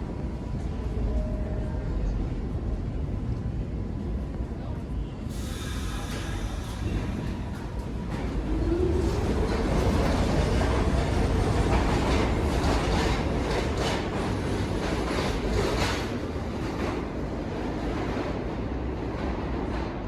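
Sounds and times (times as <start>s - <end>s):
subway train rumbling on rails: 0.0s - 20.0s.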